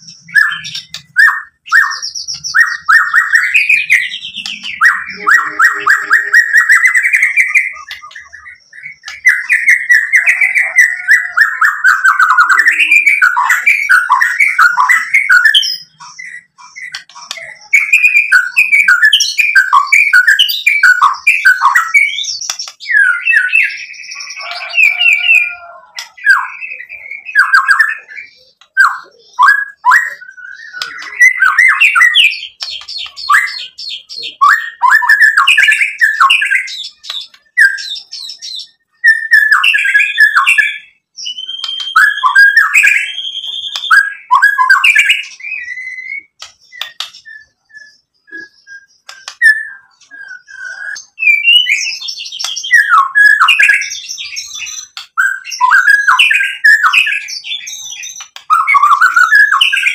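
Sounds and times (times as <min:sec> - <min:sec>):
songbird singing whistled phrases: 0:00.0 - 0:59.9.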